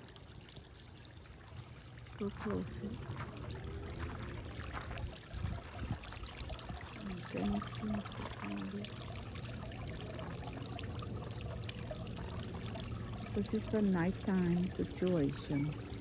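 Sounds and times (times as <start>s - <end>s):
water pouring over rocks: 0.0s - 16.0s.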